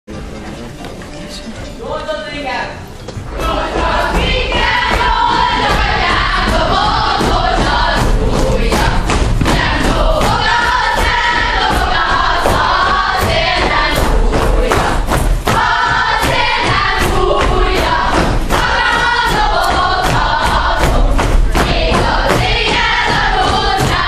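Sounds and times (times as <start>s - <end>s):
feet stamping on wooden stage: 3.0s - 24.0s
group singing in chorus: 3.2s - 24.0s.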